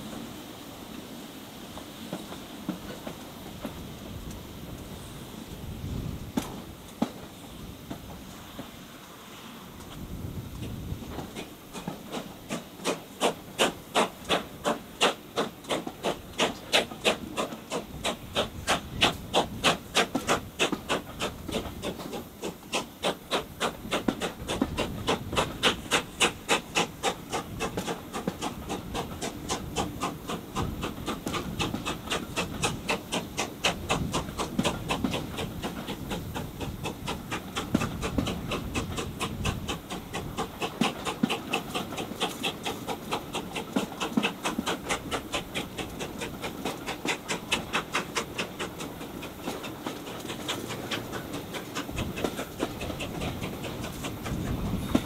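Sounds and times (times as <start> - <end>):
steam locomotive chuffing: 0.0 - 55.0
train coaches rumbling on rails: 0.0 - 55.0.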